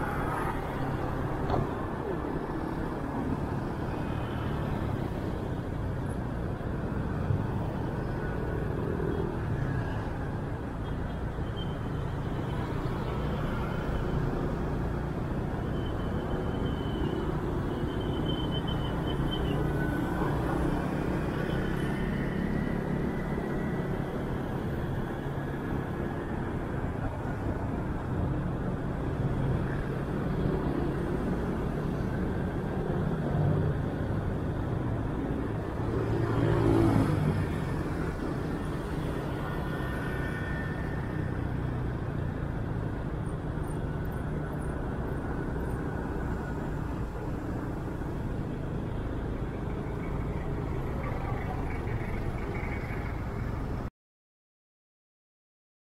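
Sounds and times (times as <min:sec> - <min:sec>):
passing cars and scooters: 0:00.0 - 0:53.9
road noise: 0:00.0 - 0:53.9.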